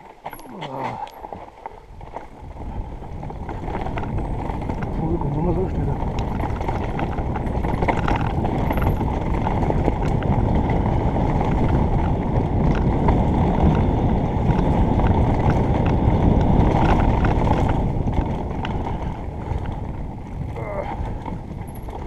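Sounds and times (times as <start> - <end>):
bike clicks and rattles: 0.0 - 22.0
bike tyre rumble on dirt: 0.0 - 22.0
wind on microphone: 1.8 - 22.0.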